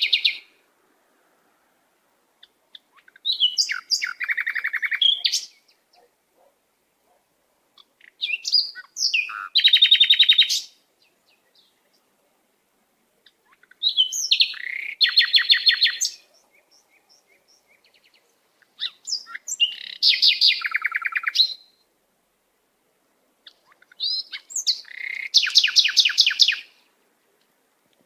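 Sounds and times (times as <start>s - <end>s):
songbird chirping and trilling: 0.0s - 0.6s, 2.3s - 12.5s, 13.1s - 21.9s, 23.3s - 27.5s.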